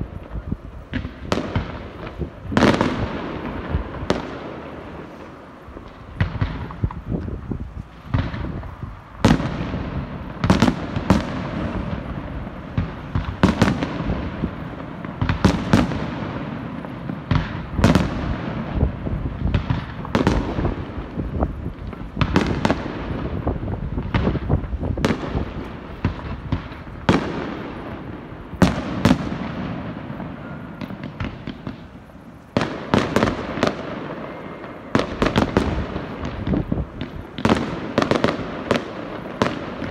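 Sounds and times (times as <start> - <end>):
crackling and rumbling echoes: 0.0 - 39.9
fireworks bangs: 0.0 - 39.9.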